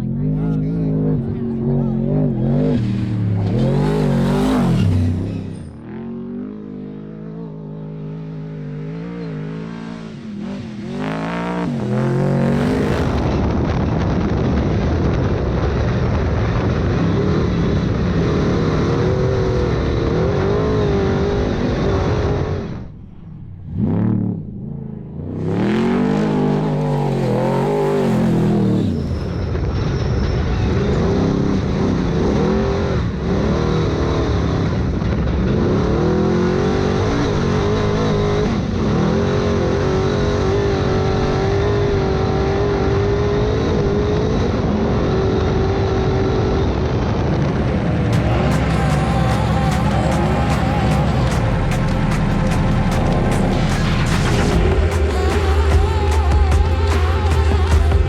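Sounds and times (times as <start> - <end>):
truck engine revving: 0.0 - 14.8, 15.7 - 58.0.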